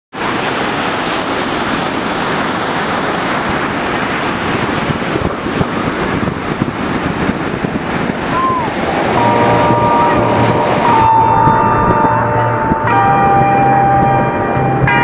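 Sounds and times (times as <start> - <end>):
ocean surf breaking: 0.1 - 15.0
wind buffeting microphone: 1.2 - 15.0.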